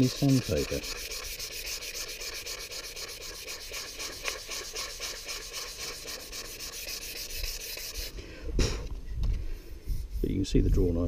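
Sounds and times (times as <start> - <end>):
sandpaper rubbing on wood: 0.0 - 8.2, 10.0 - 11.0.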